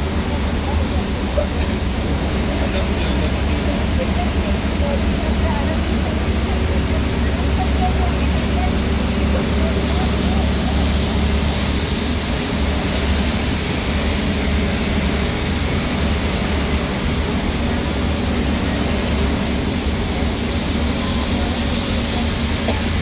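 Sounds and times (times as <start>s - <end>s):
bus engine rumble: 0.0s - 23.0s
heavy rain on bus: 0.0s - 23.0s
tyres on wet road: 0.0s - 23.0s.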